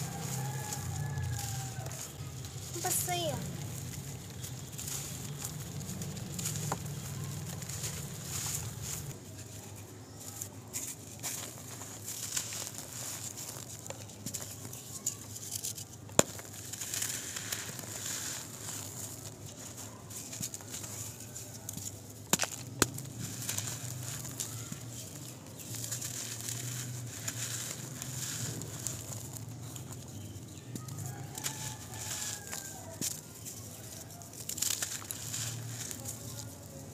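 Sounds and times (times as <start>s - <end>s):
clumps of dirt cracking: 0.0s - 36.9s
dirt clods crumbling in hands: 0.0s - 36.9s
loose soil pattering: 0.0s - 36.9s.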